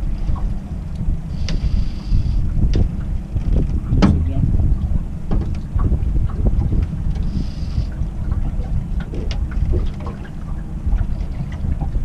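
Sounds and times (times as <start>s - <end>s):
boat motor running slowly: 0.0s - 12.0s
wind buffeting microphone: 0.0s - 12.0s.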